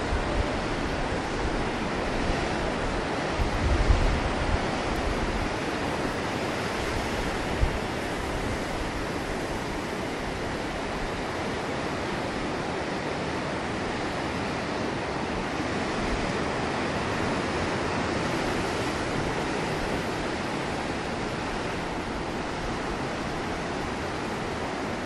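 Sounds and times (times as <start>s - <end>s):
sea surf breaking on rocks: 0.0s - 25.0s.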